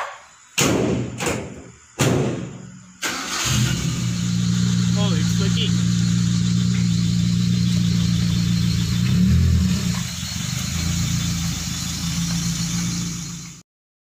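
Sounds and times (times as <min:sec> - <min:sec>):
car engine idling and revving: 0:02.4 - 0:13.6.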